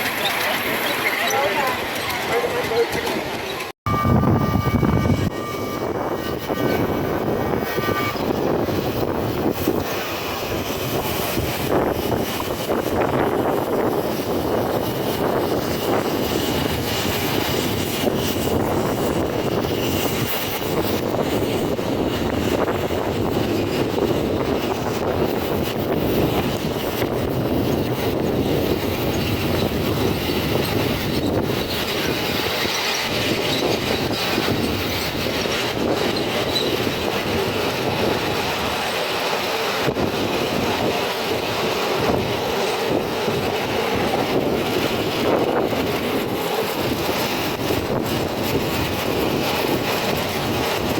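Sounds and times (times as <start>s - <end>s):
clicks of train wheels: 0.0s - 3.8s, 7.6s - 50.9s
wheels rumbling on rail: 0.0s - 50.9s.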